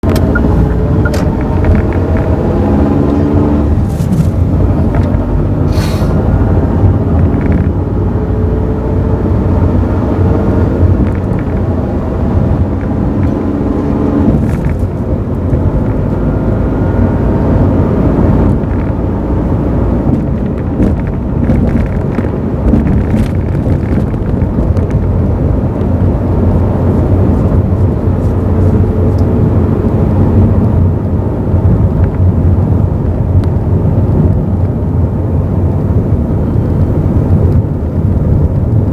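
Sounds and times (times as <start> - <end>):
car transmission whining: 0.0 - 38.9.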